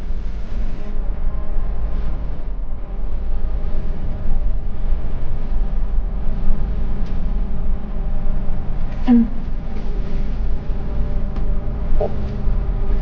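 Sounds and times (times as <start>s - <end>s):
vehicle rumbling: 1.0s - 13.0s.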